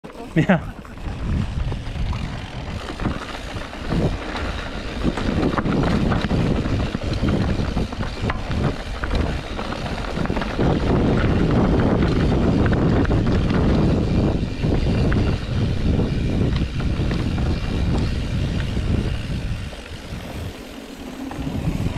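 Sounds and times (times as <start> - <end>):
bike chain rattling: 0.0 - 21.9
tyres on gravel: 0.0 - 21.9
wind buffeting microphone: 0.3 - 21.9.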